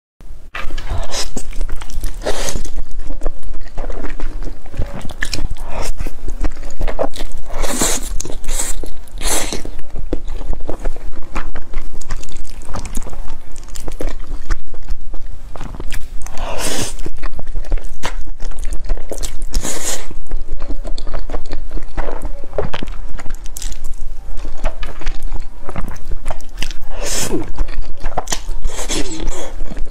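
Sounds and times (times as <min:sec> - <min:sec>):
noodle slurping: 0:00.6 - 0:29.9
wet chewing: 0:00.6 - 0:29.9.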